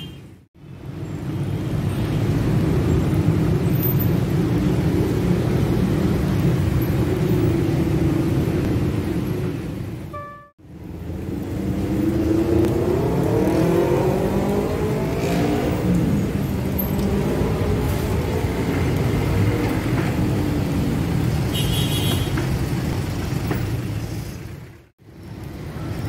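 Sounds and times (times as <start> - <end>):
rumble of cars and motorcycles: 0.0 - 26.0.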